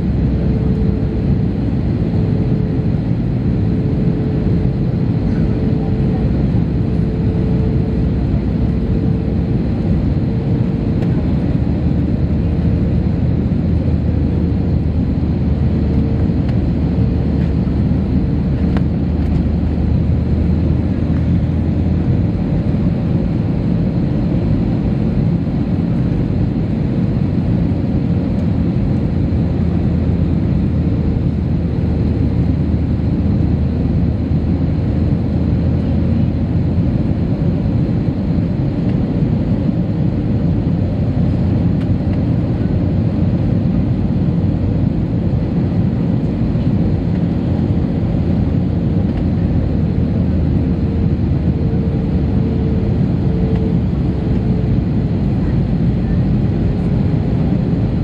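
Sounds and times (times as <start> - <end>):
airliner engine and airflow rumble: 0.0 - 58.0.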